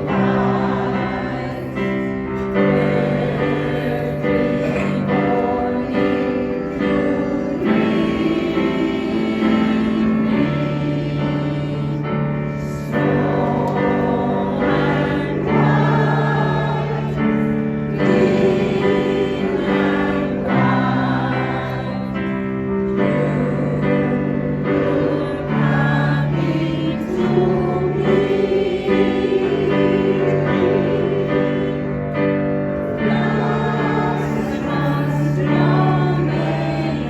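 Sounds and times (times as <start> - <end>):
choir singing in harmony: 0.0 - 37.0
piano accompaniment: 0.0 - 37.0.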